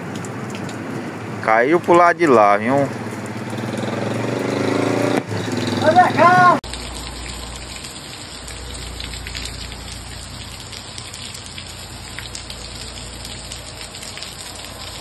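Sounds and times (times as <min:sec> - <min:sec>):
heavy rain on wet ground: 0:00.0 - 0:15.0.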